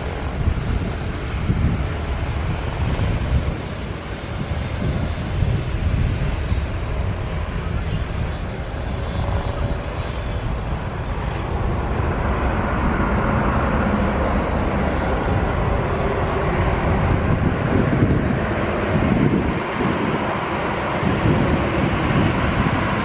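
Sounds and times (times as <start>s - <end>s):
jet engines passing: 0.0s - 23.0s
wind buffeting microphone: 0.0s - 23.0s.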